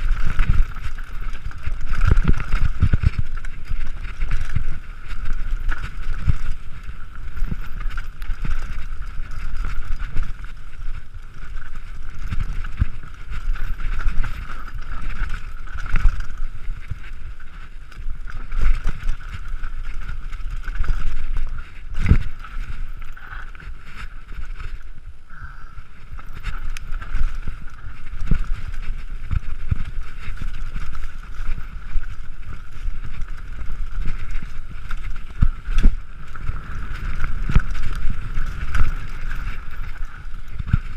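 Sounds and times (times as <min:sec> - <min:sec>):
bike rattling over bumps: 0:00.0 - 0:40.9
wind buffeting microphone: 0:00.0 - 0:40.9.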